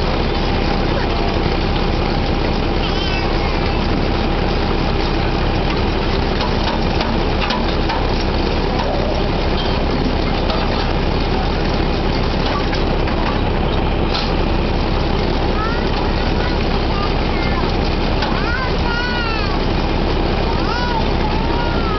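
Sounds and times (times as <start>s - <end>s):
drilling rig engines running: 0.0s - 21.9s.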